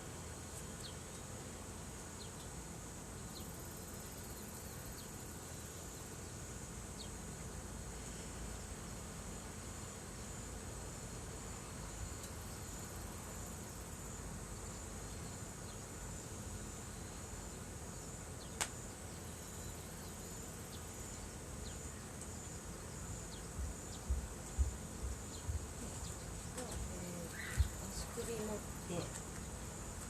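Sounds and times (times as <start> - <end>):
insects trilling: 0.1 - 30.0.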